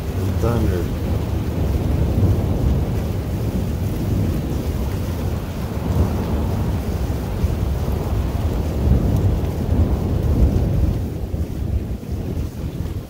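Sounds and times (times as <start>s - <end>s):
deep steady rumble: 0.0s - 12.4s
wind noise on microphone: 0.0s - 13.0s.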